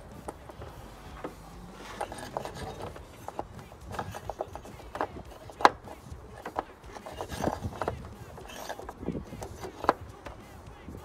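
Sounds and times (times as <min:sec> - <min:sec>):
rubbing and rustling: 0:00.0 - 0:11.0
metallic clicks and knocks: 0:00.1 - 0:10.7.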